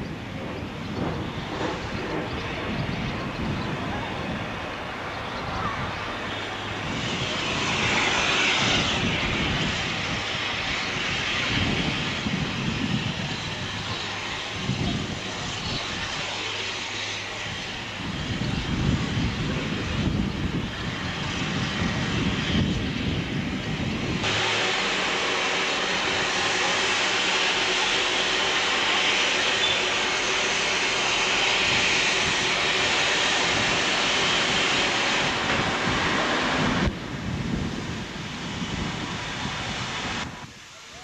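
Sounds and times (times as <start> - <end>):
steam locomotive chuffing: 0.0 - 22.5, 23.2 - 37.3
steam hissing: 0.0 - 41.0.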